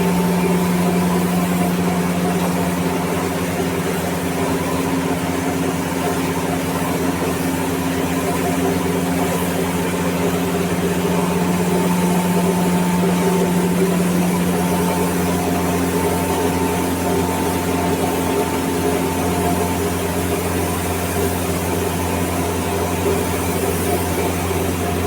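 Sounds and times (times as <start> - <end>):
motor humming: 0.0 - 5.6, 6.3 - 25.0.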